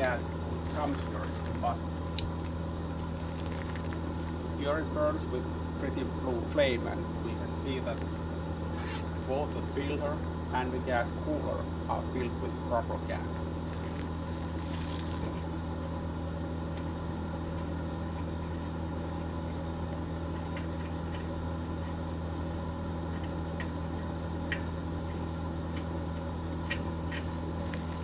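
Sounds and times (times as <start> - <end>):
blower humming: 0.0 - 28.0.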